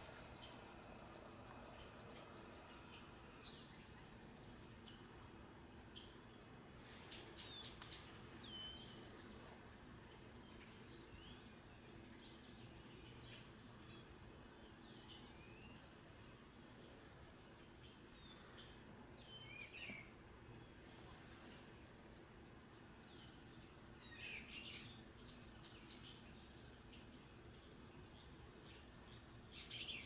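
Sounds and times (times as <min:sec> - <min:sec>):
high insect buzz: 0:00.0 - 0:30.0.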